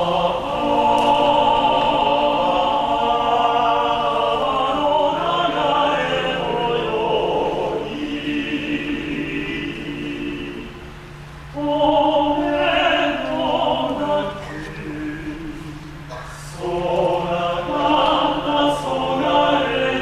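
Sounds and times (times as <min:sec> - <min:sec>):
men singing in harmony: 0:00.0 - 0:10.9, 0:11.6 - 0:15.9, 0:16.5 - 0:20.0.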